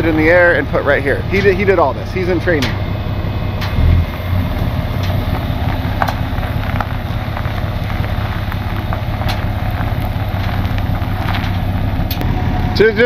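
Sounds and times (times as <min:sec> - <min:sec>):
truck engines running: 0:00.0 - 0:13.0.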